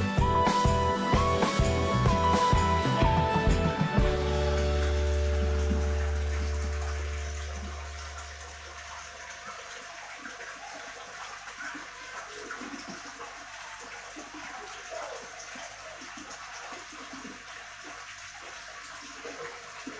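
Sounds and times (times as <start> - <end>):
aquarium filter water splashing: 0.0 - 19.9.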